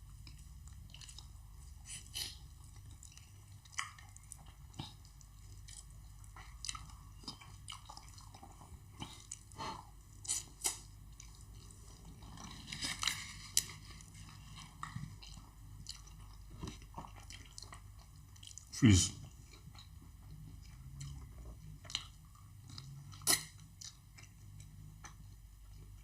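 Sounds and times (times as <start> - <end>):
wet chewing mouth sounds: 0.1 - 26.0.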